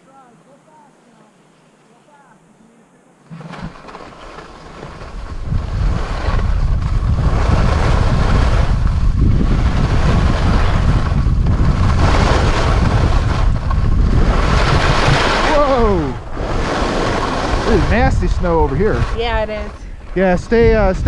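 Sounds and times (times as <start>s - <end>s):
skis sliding on snow: 0.1s - 21.0s
wind buffeting microphone: 3.3s - 21.0s.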